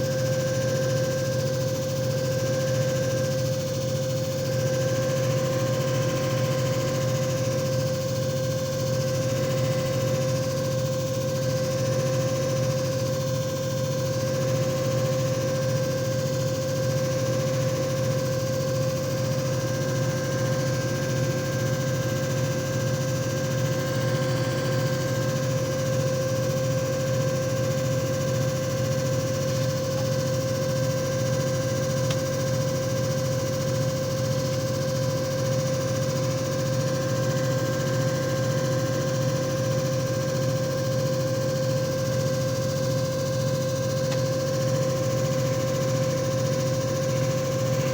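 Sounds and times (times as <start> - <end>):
machine motor humming and whining: 0.0 - 47.9.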